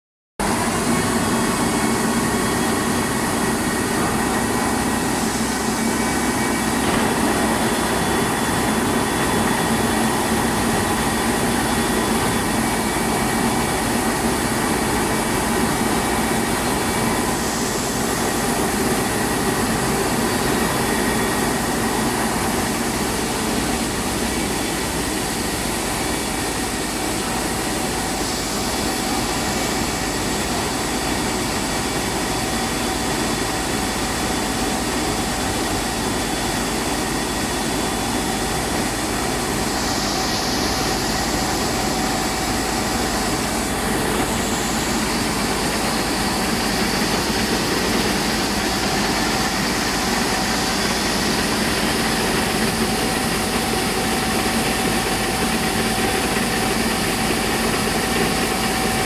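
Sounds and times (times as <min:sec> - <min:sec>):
milling machinery humming: 0:00.4 - 0:59.0.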